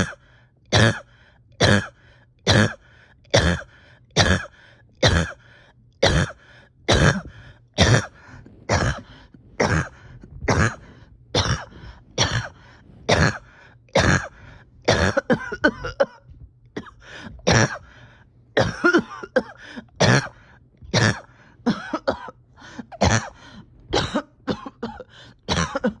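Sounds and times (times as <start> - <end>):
person coughing harshly: 0.0 - 26.0.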